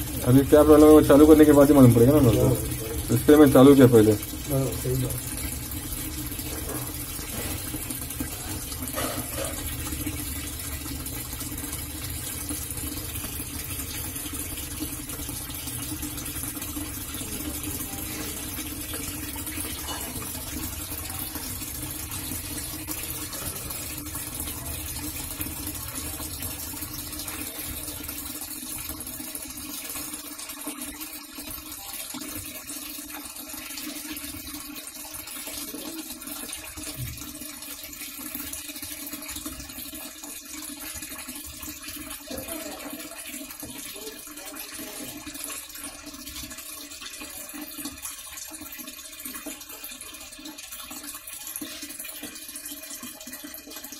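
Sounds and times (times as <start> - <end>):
water pouring into washing machine: 0.0 - 53.9.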